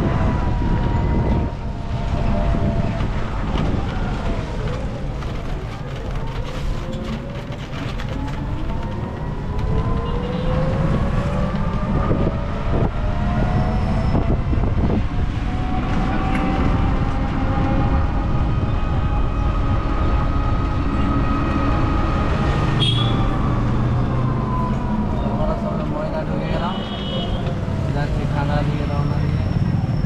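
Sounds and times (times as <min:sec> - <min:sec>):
road noise rumble: 0:00.0 - 0:30.0.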